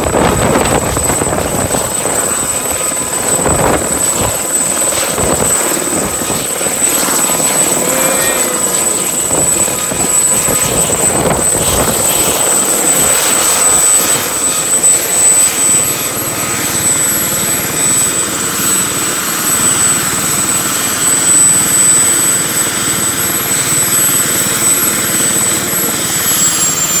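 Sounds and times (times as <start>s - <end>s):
helicopter rotor and engine noise: 0.0s - 27.0s
helicopter turbine whistle: 0.0s - 27.0s.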